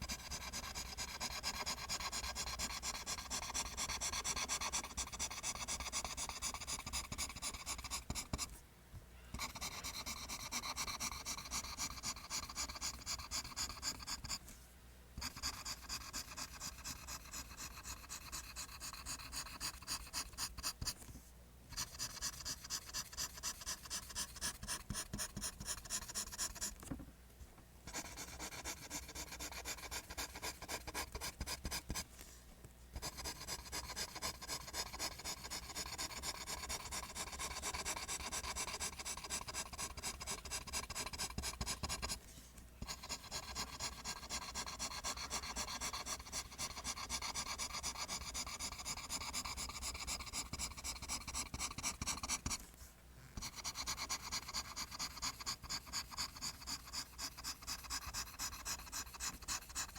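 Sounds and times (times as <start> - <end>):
pencil scratching on paper: 0.0 - 8.5, 9.4 - 14.4, 15.2 - 21.0, 21.7 - 26.9, 27.9 - 32.0, 33.0 - 42.2, 42.8 - 52.6, 53.4 - 59.9.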